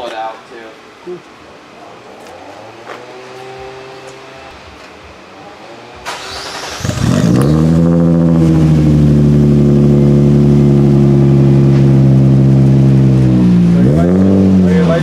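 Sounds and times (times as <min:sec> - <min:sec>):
car engine revving and idling: 0:02.0 - 0:04.7, 0:05.3 - 0:15.0.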